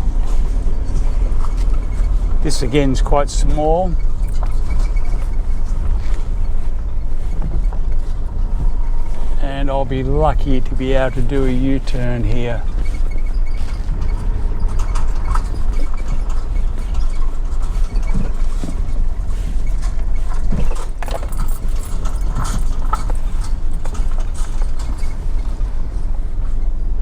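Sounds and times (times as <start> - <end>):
knocks and rattles from bumps: 0.0 - 26.8
vehicle rumbling on dirt track: 0.0 - 27.0.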